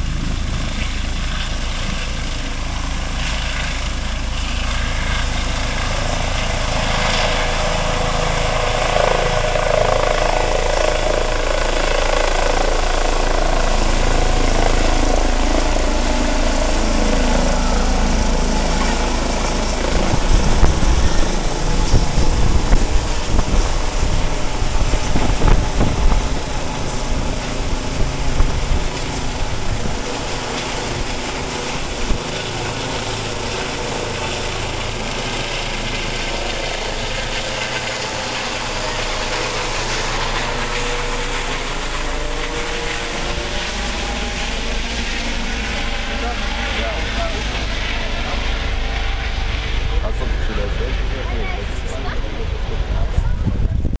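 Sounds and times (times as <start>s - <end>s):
helicopter turbines and rotor: 0.0s - 54.0s
low rotor buffeting and thumping: 2.7s - 54.0s.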